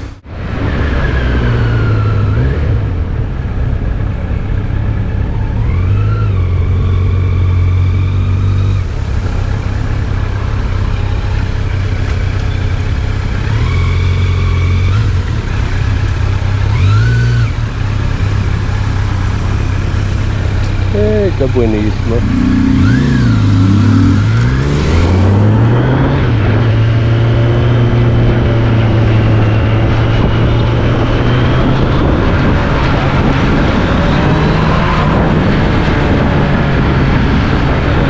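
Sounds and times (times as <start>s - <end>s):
road and wind noise: 0.0s - 38.0s
vehicle engine accelerating: 0.0s - 38.0s.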